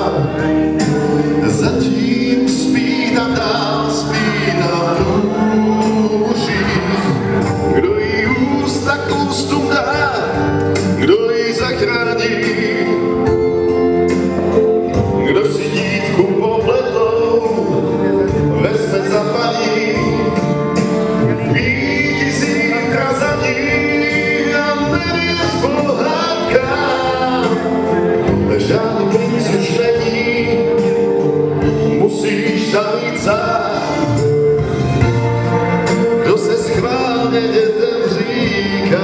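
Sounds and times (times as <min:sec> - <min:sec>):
man singing into microphone: 0:00.0 - 0:34.7, 0:35.8 - 0:39.0
backing music: 0:00.0 - 0:39.0.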